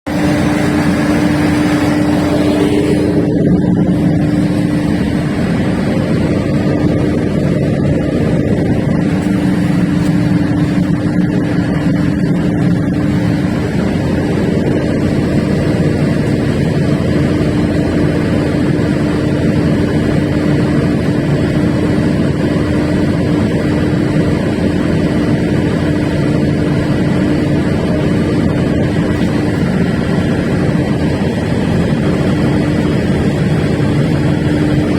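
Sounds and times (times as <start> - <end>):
diesel generator droning: 0.0 - 34.9.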